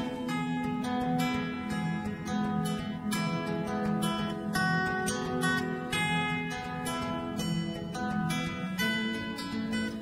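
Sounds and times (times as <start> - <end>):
acoustic guitar plucked notes: 0.0 - 10.0.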